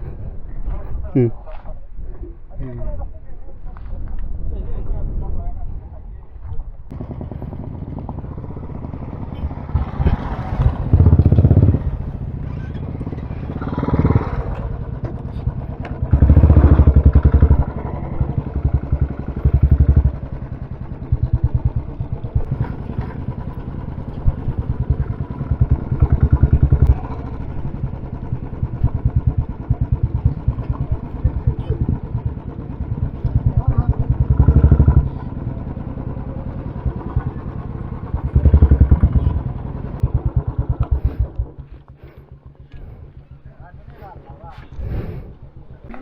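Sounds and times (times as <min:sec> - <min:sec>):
motorcycle engines thumping: 0:06.4 - 0:46.0.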